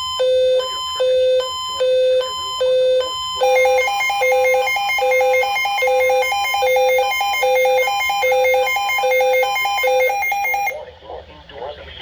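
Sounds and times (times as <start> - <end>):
high electronic alarm beeps: 0.0 - 10.8.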